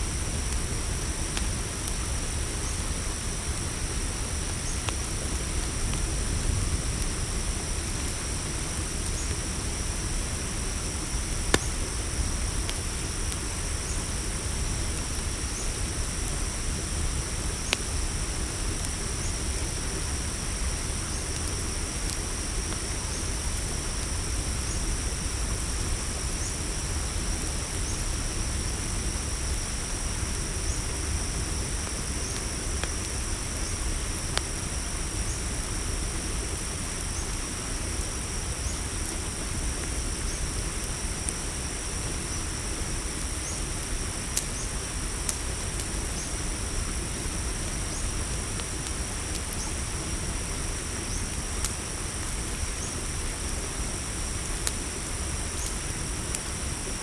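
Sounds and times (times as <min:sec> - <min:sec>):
crickets trilling: 0:00.0 - 0:57.0
campfire crackling pops: 0:00.1 - 0:57.0.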